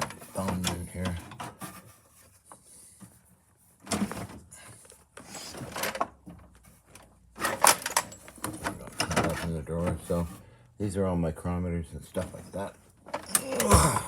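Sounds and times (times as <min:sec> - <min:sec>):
drawers sliding and tools rattling: 0:00.0 - 0:10.4, 0:12.1 - 0:13.8.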